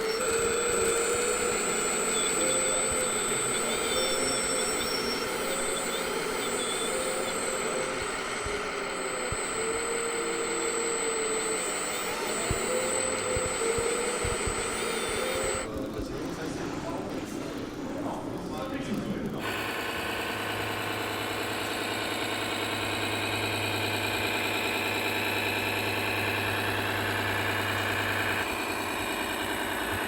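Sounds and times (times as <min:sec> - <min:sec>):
simulated truck engine idling: 0:00.0 - 0:30.0.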